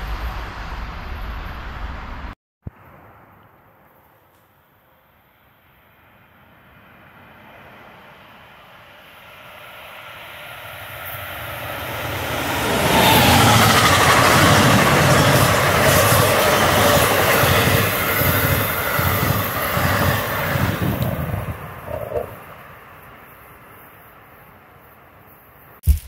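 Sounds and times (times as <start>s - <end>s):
train passing close by: 0.0s - 2.4s, 6.1s - 25.4s.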